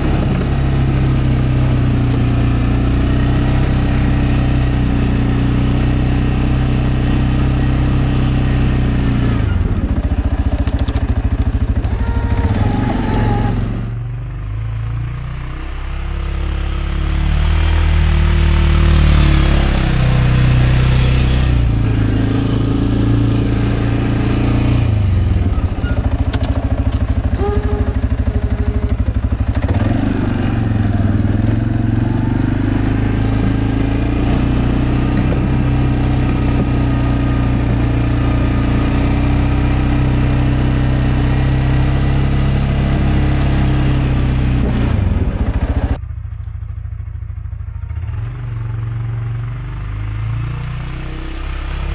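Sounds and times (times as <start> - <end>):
atv engine running under load: 0.0 - 51.9.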